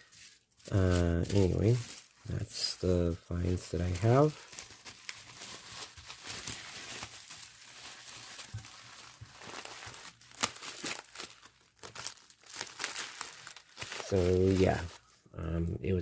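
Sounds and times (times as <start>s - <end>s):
packaging crinkling: 0.0s - 15.2s.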